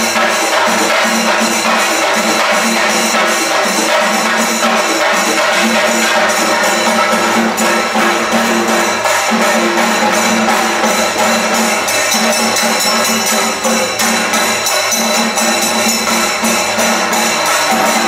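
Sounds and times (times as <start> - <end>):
drums beaten with sticks: 0.0 - 18.0.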